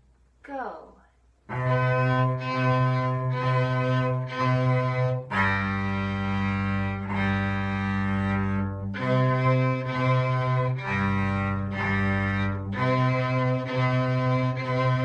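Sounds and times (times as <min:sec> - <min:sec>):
cello and violin bowing: 0:01.5 - 0:15.0.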